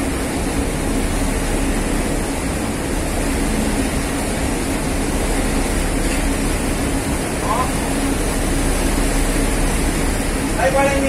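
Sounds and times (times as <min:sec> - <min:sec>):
ship engine humming: 0:00.0 - 0:11.0
water noise: 0:00.0 - 0:11.0
wind: 0:00.0 - 0:11.0.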